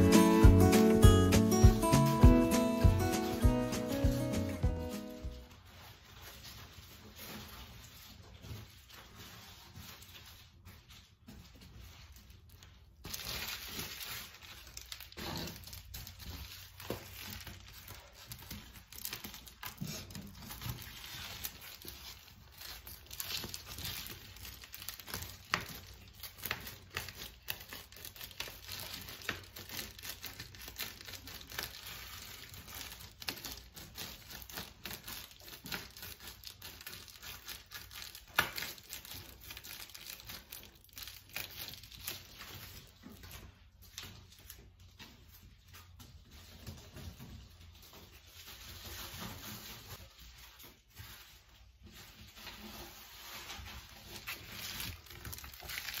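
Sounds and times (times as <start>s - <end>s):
foil insulation crinkling: 0.0s - 56.0s.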